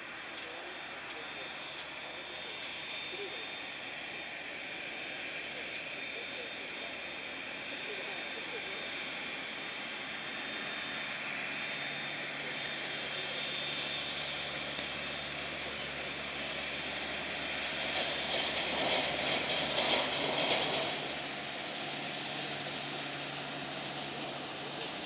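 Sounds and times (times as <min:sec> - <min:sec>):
distant jet engines: 0:00.0 - 0:25.0.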